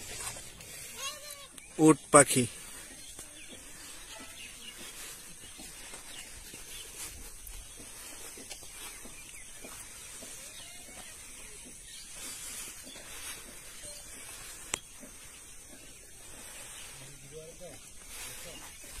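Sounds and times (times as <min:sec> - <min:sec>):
steady outdoor hiss: 0:00.0 - 0:19.0
faint bird chirps: 0:00.1 - 0:19.0.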